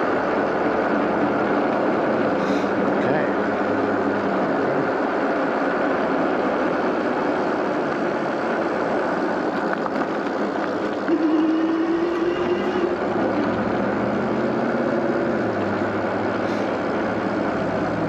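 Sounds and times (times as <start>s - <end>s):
wind and road rush: 0.0s - 18.0s.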